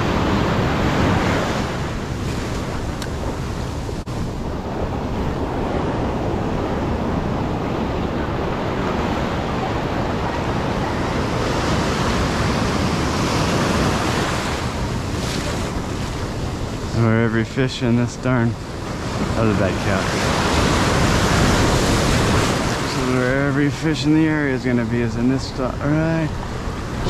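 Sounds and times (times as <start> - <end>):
ocean surf washing: 0.0 - 27.0
wind on microphone: 0.0 - 27.0.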